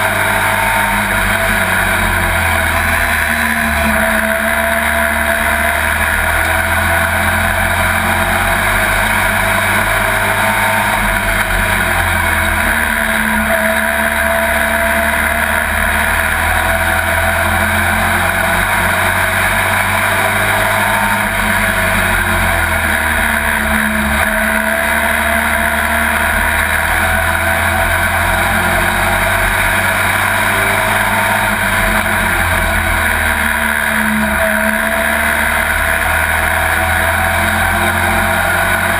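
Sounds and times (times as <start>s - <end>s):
racing truck engine revving: 0.0s - 38.9s.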